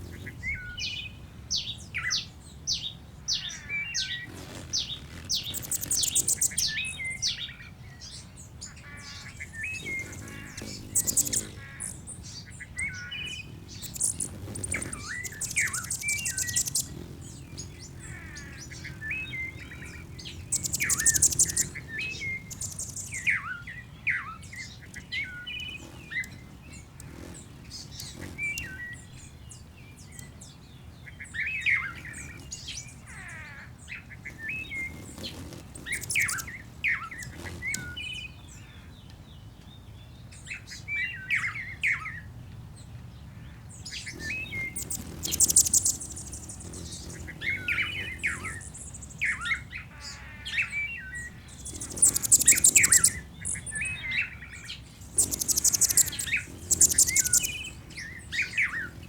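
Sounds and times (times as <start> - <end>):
high rapid bird trills: 0.0 - 38.9, 43.5 - 59.0
wild birds chirping: 0.0 - 59.0.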